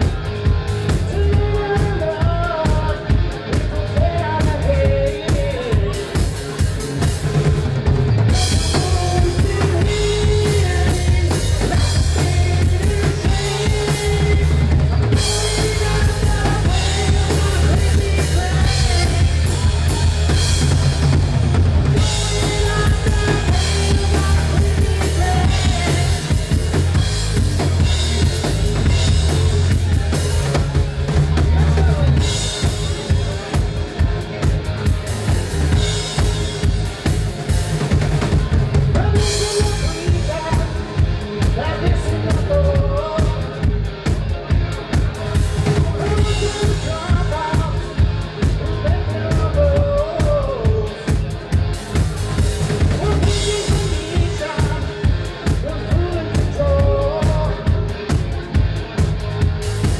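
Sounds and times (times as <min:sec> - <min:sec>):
bass guitar: 0:00.0 - 0:59.9
electric guitar: 0:00.0 - 0:59.9.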